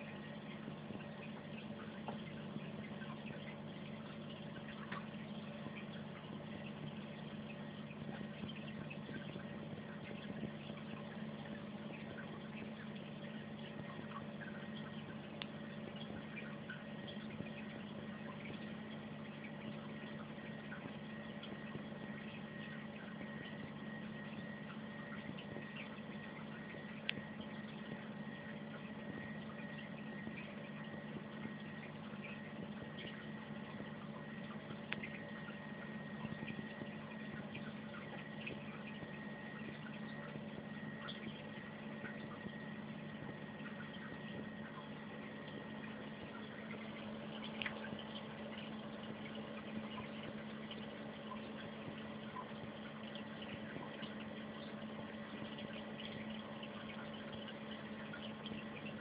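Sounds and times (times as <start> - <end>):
aquarium pump humming: 0.0 - 59.0
water trickling: 0.0 - 59.0.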